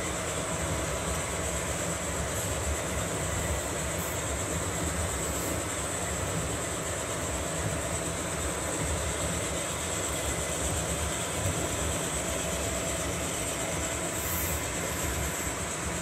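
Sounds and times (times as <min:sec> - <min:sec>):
model train wheels rolling on track: 0:00.0 - 0:16.0.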